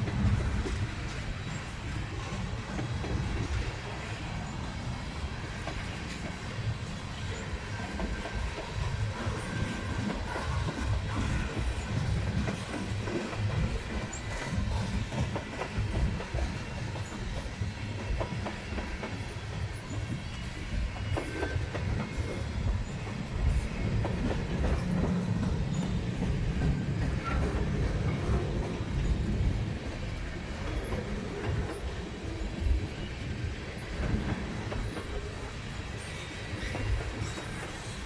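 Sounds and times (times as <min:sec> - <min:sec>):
train rumbling: 0:00.0 - 0:38.0
train wheels clicking over rails: 0:00.0 - 0:38.0.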